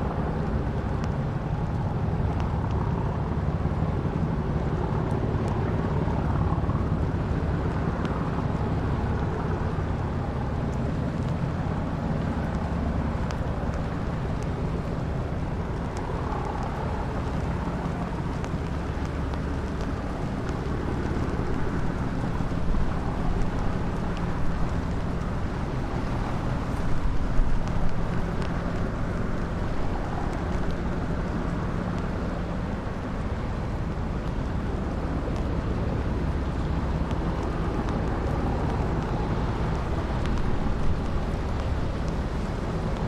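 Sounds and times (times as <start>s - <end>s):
boat engine humming: 0.0s - 43.0s
wind noise on microphone: 0.0s - 43.0s.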